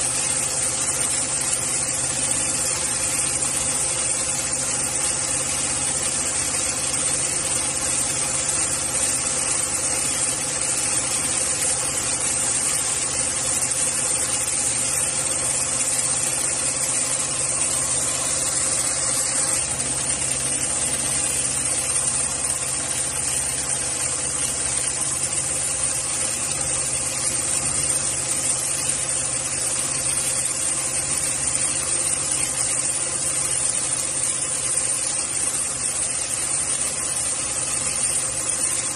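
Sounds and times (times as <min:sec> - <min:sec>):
industrial sewing machine running: 0:00.0 - 0:38.9.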